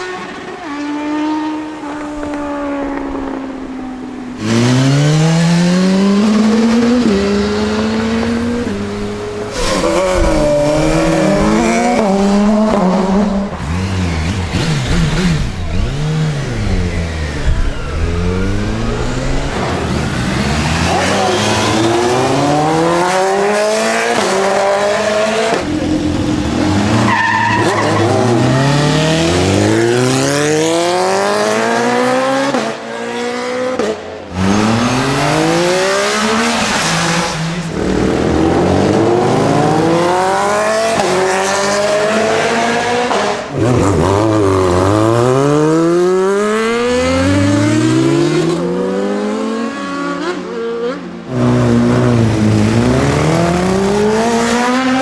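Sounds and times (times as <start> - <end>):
motorcycle engines accelerating: 0.0 - 55.0.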